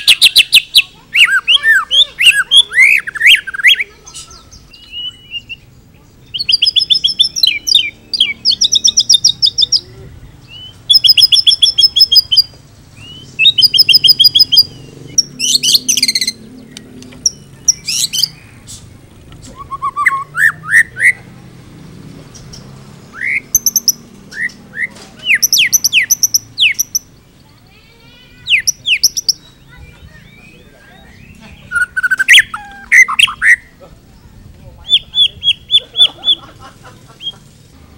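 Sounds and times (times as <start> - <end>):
bird singing varied song: 0.0 - 37.8.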